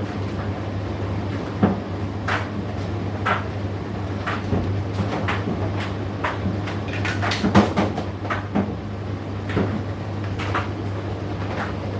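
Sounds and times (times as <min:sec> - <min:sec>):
tumble dryer motor hum: 0:00.0 - 0:11.9.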